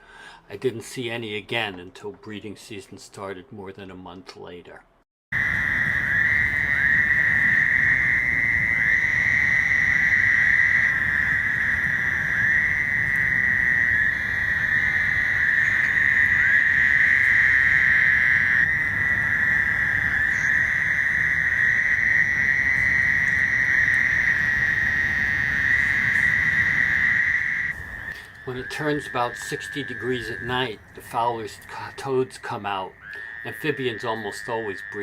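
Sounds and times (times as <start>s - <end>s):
chorus of toads calling: 5.4s - 35.0s.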